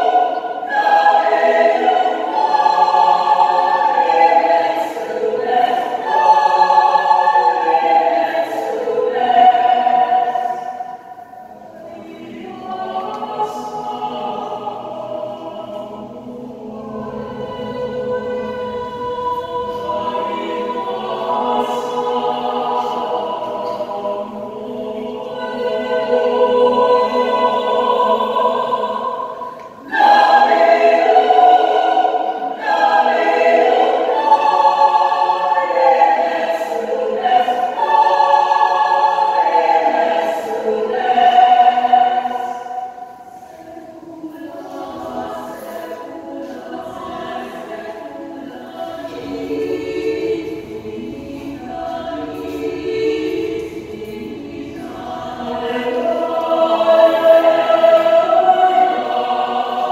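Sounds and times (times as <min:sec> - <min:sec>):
mixed choir singing chords: 0:00.0 - 0:59.9.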